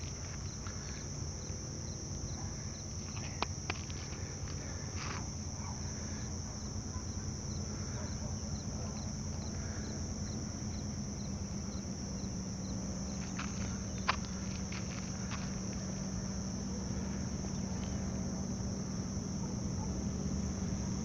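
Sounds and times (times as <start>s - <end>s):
insects chirring: 0.0s - 21.0s
low steady rumble: 0.0s - 21.0s.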